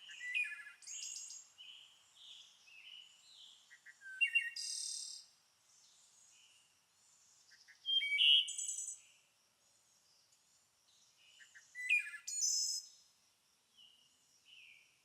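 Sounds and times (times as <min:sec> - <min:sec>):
loud bird song: 0:00.0 - 0:15.0
songbirds chirping and trilling: 0:00.0 - 0:15.0.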